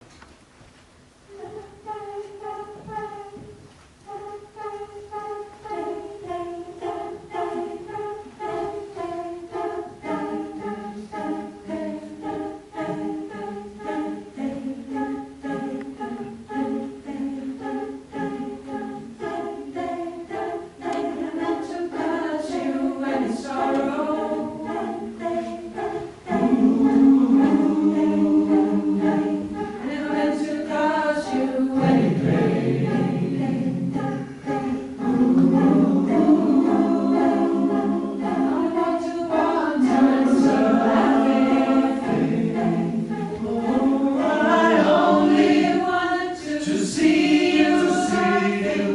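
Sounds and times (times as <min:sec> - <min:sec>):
choir singing a cappella: 0:01.3 - 0:48.9.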